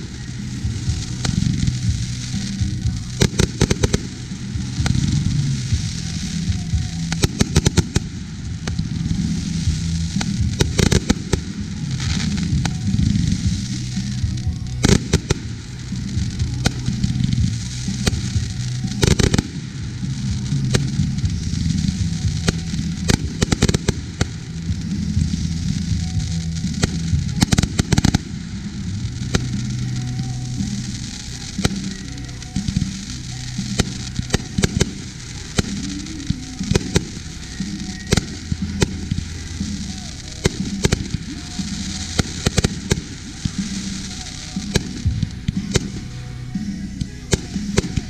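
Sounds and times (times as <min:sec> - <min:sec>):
fireworks bangs and crackling: 0:00.0 - 0:48.0
music with bass line: 0:00.0 - 0:48.0.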